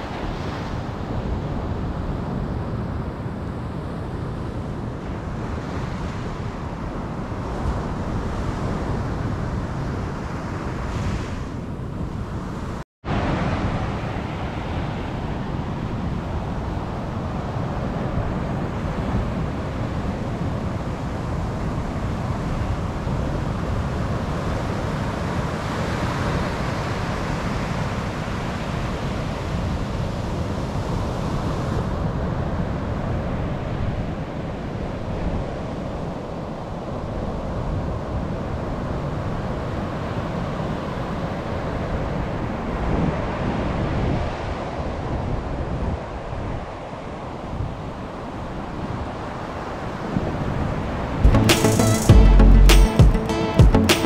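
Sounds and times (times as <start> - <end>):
ocean waves breaking on beach: 0.0 - 51.3.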